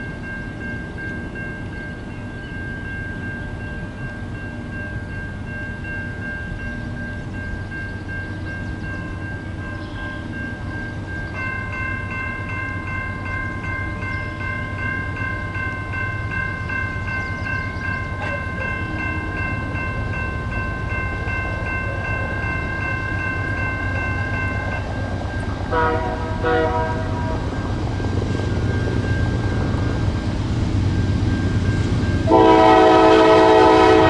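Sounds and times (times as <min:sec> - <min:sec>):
high ringing tones: 0:00.0 - 0:34.0
train rumbling past: 0:00.0 - 0:34.0.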